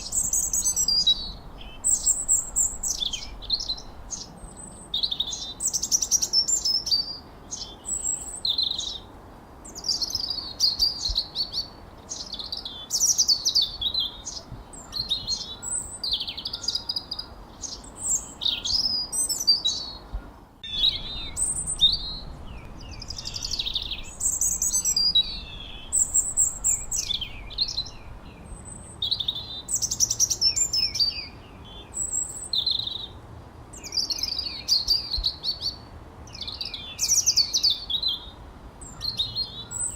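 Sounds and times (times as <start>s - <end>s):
birds chirping and whistling: 0.0s - 9.1s, 9.7s - 33.2s
faint low background hiss: 0.0s - 39.9s.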